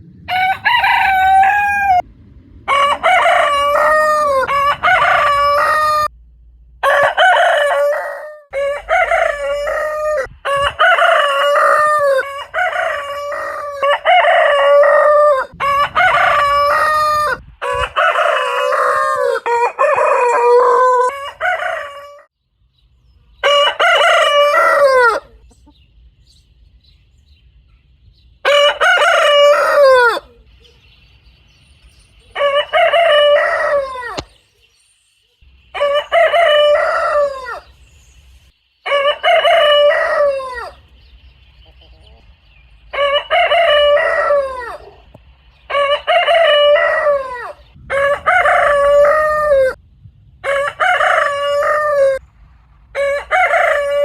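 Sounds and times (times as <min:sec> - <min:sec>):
roosters crowing: 0:00.2 - 0:06.1, 0:06.8 - 0:22.3, 0:23.3 - 0:25.7, 0:28.4 - 0:30.7, 0:32.1 - 0:34.4, 0:35.7 - 0:41.0, 0:41.7 - 0:49.8, 0:50.4 - 0:54.0.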